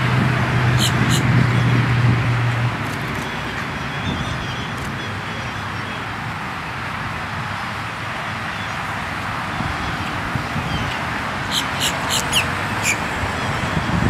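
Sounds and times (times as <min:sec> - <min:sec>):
low vehicle hum: 0:00.0 - 0:14.0
road traffic: 0:00.0 - 0:14.0.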